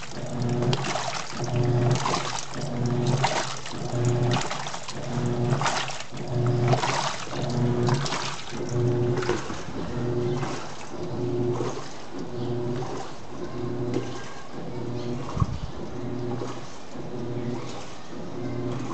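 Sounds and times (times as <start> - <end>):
washing machine motor humming: 0.0 - 18.9
water churning and splashing: 0.0 - 18.9.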